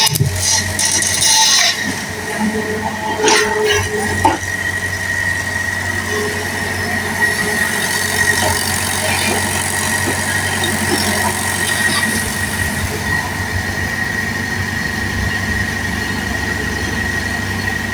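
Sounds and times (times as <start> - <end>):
excavator engine running: 0.0 - 17.9
high-pitched whine: 0.0 - 17.9.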